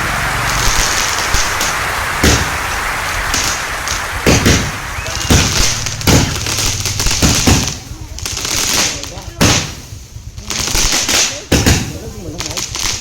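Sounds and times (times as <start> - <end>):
firework bangs: 0.0 - 13.0
fireworks hissing crackle: 0.0 - 13.0.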